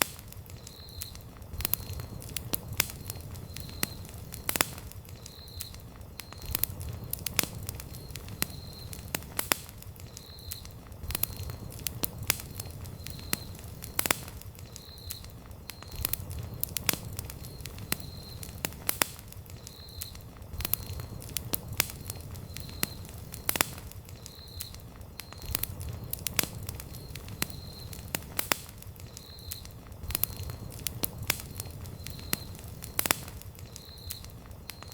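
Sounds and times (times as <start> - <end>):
campfire crackling and popping: 0.0 - 34.9
low rumble of flame: 0.0 - 34.9.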